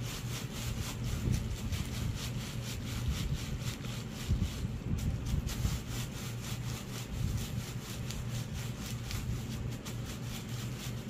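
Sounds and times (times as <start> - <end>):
rustling strokes of feet treading: 0.0 - 11.0.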